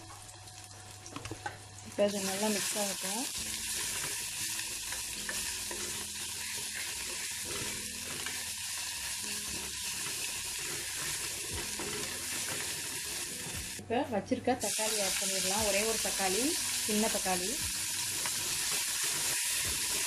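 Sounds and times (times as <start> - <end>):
onions sizzling in hot oil: 0.0 - 13.8, 14.6 - 20.0.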